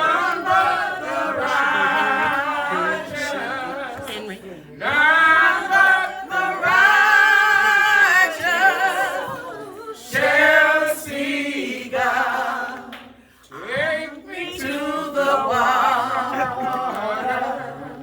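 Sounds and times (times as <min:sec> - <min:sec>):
voices singing unaccompanied: 0:00.0 - 0:18.0.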